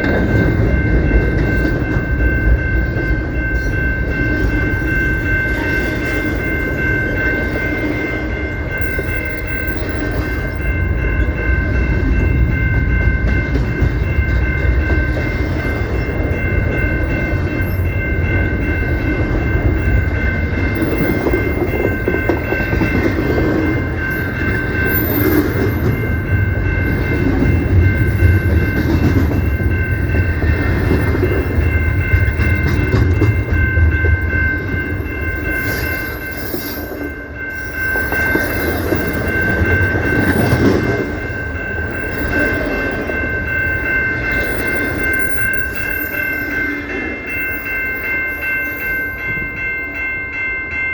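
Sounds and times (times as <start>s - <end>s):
freight train rumbling on rails: 0.0s - 50.9s
steady high-pitched tone: 0.0s - 50.9s.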